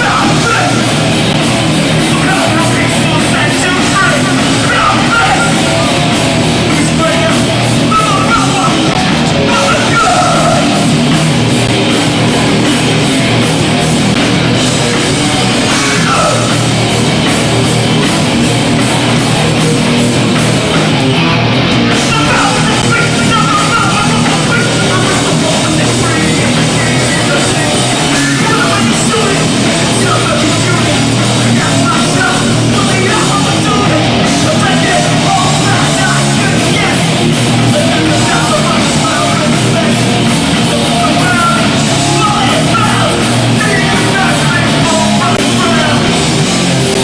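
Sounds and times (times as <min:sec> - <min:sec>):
punk band playing live: 0:00.0 - 0:47.0.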